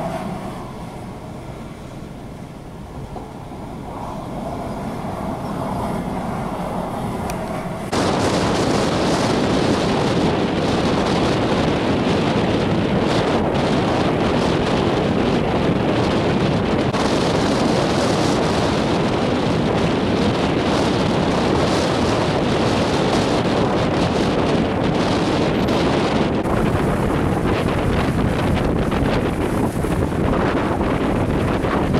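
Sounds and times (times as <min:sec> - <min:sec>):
strong wind on microphone: 0:00.0 - 0:31.9.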